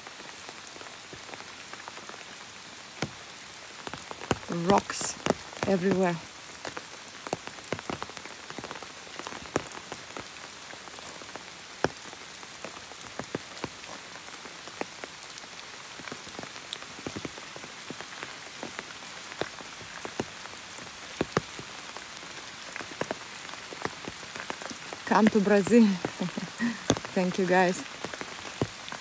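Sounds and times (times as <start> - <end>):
rain hiss: 0.0 - 29.0
sharp taps of raindrops: 0.1 - 29.0.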